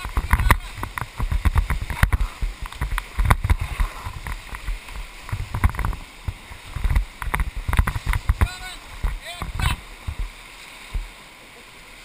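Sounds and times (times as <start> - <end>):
knocks and low thumps: 0.0 - 11.2
river rapid rushing and splashing: 0.0 - 12.0.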